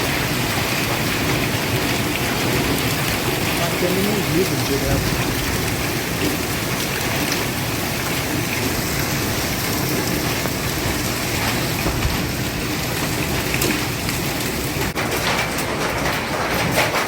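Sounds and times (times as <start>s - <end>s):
hailstones ticking: 0.0s - 17.0s
heavy rain and hail pelting: 0.0s - 17.0s.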